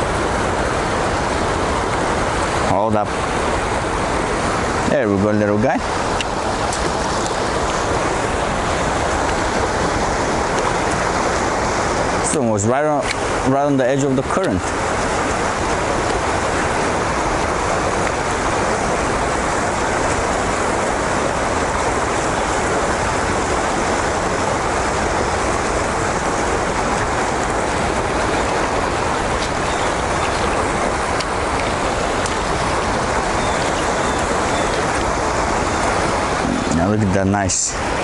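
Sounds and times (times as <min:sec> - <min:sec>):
fast river water rushing: 0:00.0 - 0:38.0.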